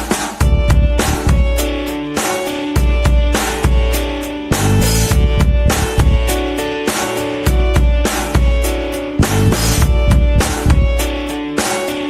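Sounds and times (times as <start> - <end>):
background music with heavy beat: 0.0 - 12.0.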